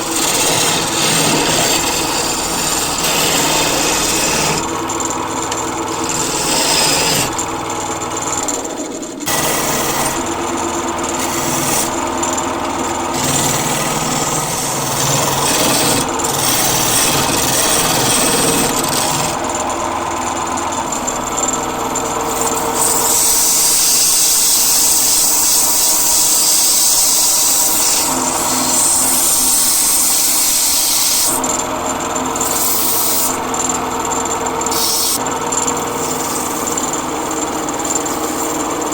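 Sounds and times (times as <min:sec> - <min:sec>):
lathe motor humming: 0:00.0 - 0:38.9
tool rasping on spinning wood: 0:00.0 - 0:38.9.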